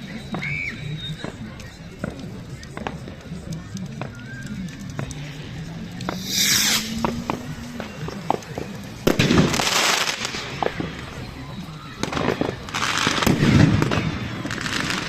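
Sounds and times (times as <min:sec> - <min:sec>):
crackling hiss: 0:00.0 - 0:15.0
fireworks bangs: 0:00.0 - 0:15.0.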